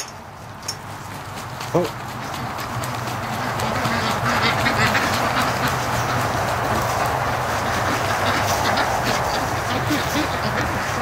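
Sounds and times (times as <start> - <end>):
ducks quacking: 1.0 - 11.0.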